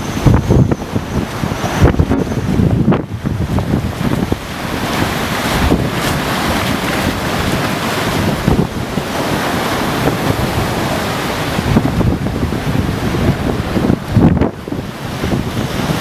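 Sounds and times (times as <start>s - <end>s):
heavy surf rushing: 0.0s - 16.0s
wind buffeting microphone: 0.0s - 16.0s.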